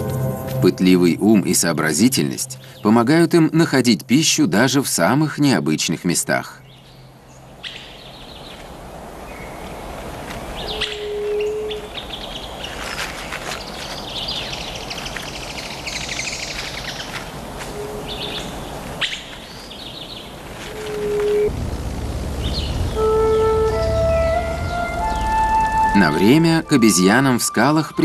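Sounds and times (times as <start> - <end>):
steady background hiss: 0.0 - 28.0
birds chirping: 0.8 - 28.0.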